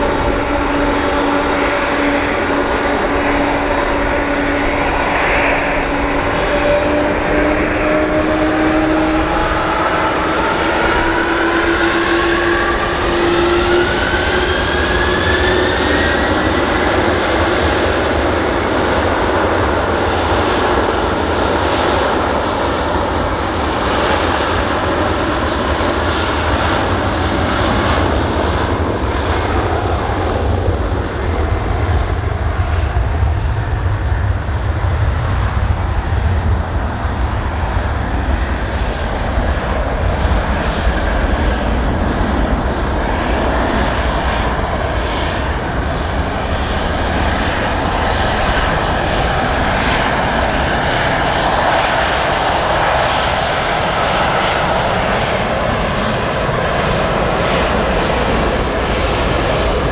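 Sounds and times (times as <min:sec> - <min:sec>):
jet engines rumbling at takeoff: 0:00.0 - 0:59.9.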